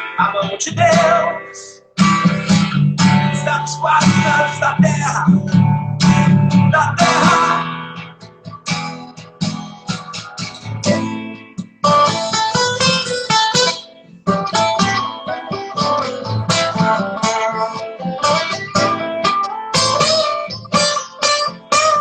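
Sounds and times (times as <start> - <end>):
guitar playing worship song: 0.0 - 22.0.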